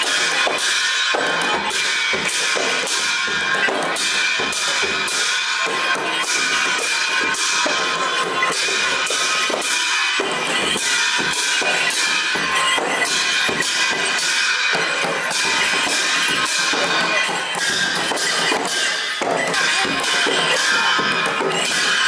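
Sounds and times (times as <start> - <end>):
clashing cymbals: 0.0 - 22.0
steady drumming: 0.0 - 22.0.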